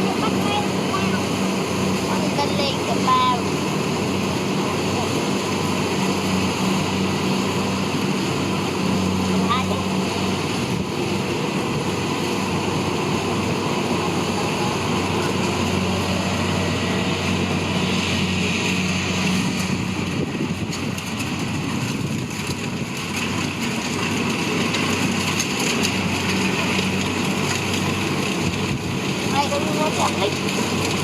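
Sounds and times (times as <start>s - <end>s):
combine harvester diesel engine: 0.0s - 31.0s.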